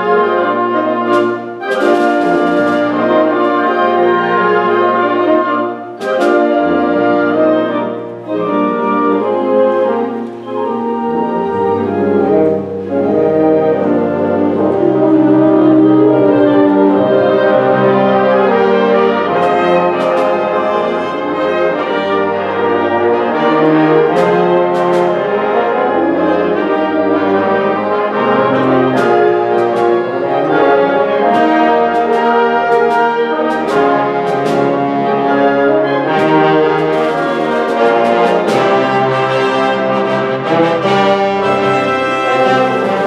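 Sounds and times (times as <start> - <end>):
symphonic band playing: 0.0 - 43.0.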